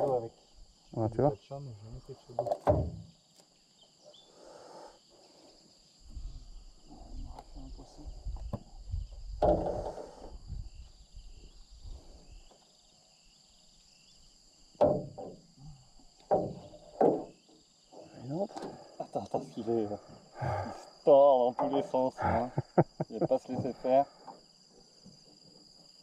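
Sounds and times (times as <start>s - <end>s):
jungle insects droning: 0.0s - 26.0s.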